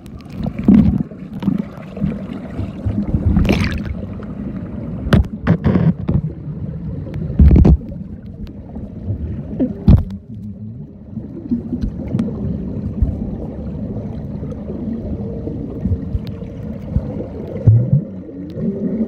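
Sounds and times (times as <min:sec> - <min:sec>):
underwater sloshing and gurgling: 0:00.0 - 0:19.0.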